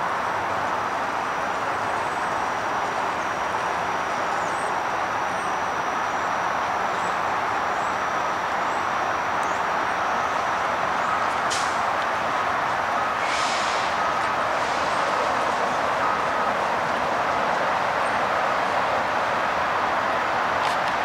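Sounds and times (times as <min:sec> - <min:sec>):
streetcar rolling rumble: 0:00.0 - 0:21.0
traffic roar: 0:00.0 - 0:21.0.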